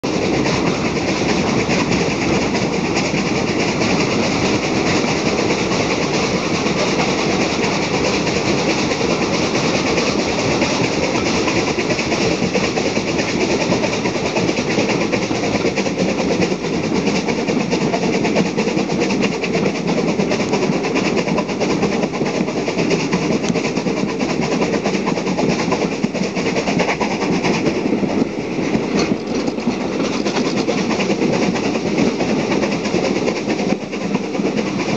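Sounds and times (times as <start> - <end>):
steam locomotive exhaust beating: 0.0 - 34.9
wheels clicking over rail joints: 0.0 - 34.9.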